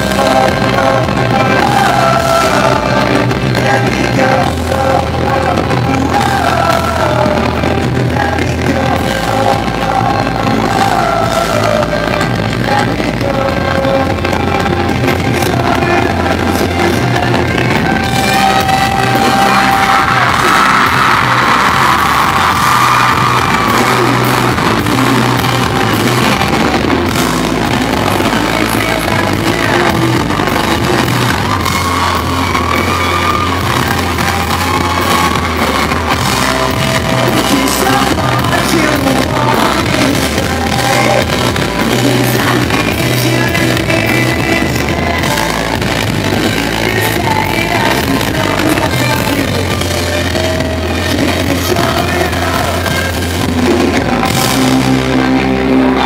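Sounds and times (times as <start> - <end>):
drum kit: 0.0 - 56.0
electric guitar: 0.0 - 56.0
male lead vocal singing: 0.0 - 56.0.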